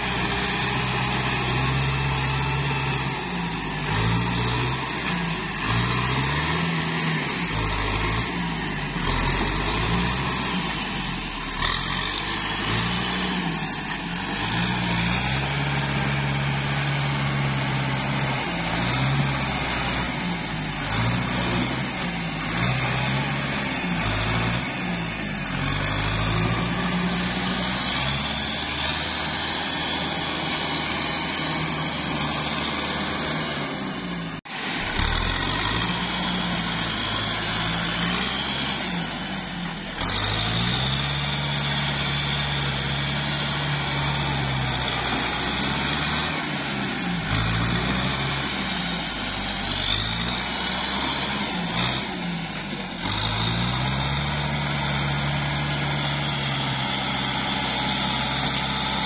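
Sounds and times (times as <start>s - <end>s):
churning mud and water: 0.0s - 59.0s
tractor diesel engine working hard: 0.0s - 59.0s.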